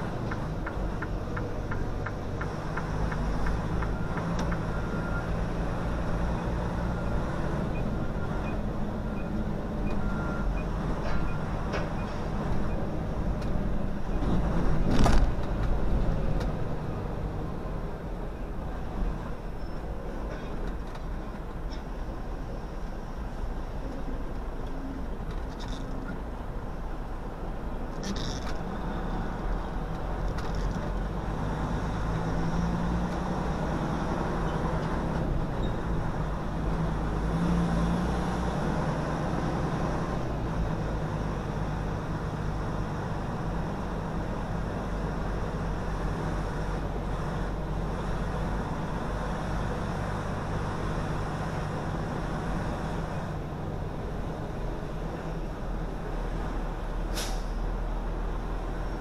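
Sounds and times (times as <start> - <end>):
road noise: 0.0 - 59.0
truck diesel engine rumble: 0.0 - 59.0.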